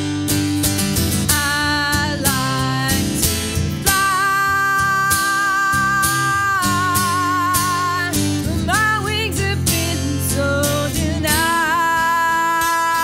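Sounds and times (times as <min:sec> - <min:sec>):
acoustic guitar strummed: 0:00.0 - 0:13.0
woman singing: 0:01.2 - 0:13.0.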